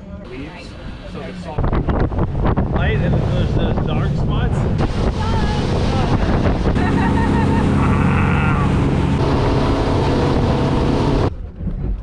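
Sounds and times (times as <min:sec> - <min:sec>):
outboard motors droning: 0:00.0 - 0:11.4
wake rushing: 0:00.6 - 0:11.3
wind buffeting: 0:00.7 - 0:12.0.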